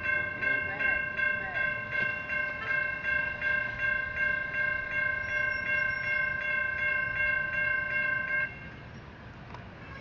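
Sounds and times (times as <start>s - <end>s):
crossing warning bell ringing: 0.0s - 8.9s.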